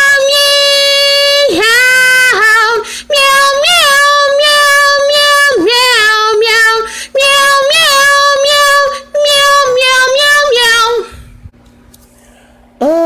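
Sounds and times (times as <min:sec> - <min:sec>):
woman singing unaccompanied: 0:00.0 - 0:11.1.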